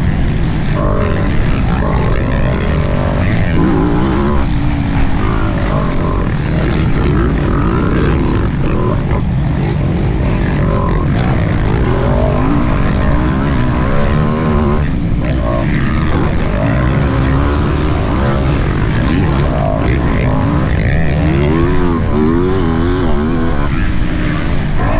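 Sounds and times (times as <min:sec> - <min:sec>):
motocross bike engines revving: 0:00.0 - 0:24.9.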